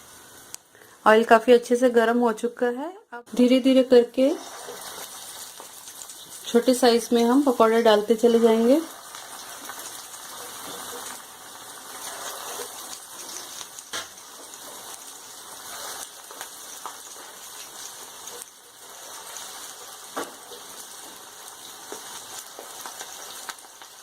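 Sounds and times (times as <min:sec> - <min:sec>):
hot oil sizzling: 0:00.0 - 0:02.4, 0:03.3 - 0:24.0.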